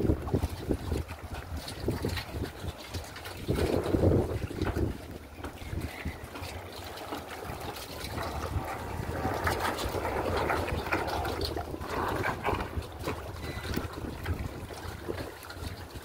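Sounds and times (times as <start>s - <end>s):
water lapping against a dock: 0.0s - 16.0s
wind buffeting microphone: 0.0s - 16.0s.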